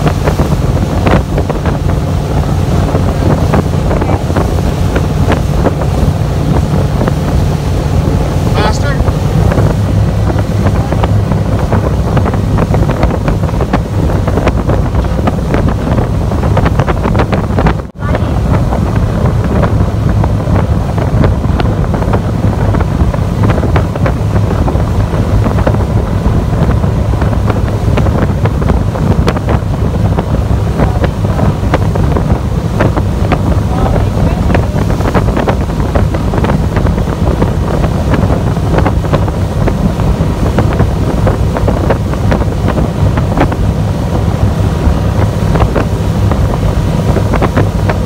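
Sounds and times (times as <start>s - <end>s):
motorboat engine drone: 0.0s - 48.0s
water rushing past hull: 0.0s - 48.0s
wind buffeting microphone: 0.0s - 48.0s.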